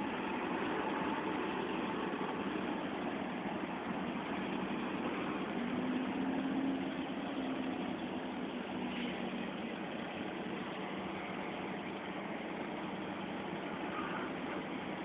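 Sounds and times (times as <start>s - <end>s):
forklift engine humming: 0.0s - 15.0s.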